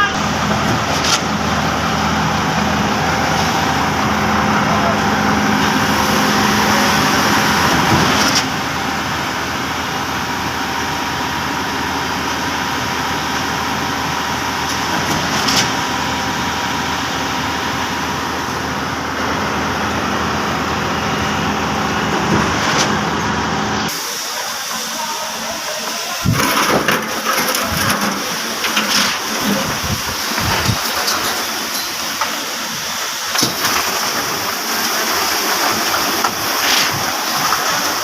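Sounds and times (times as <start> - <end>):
concrete pump engine running: 0.0 - 38.0.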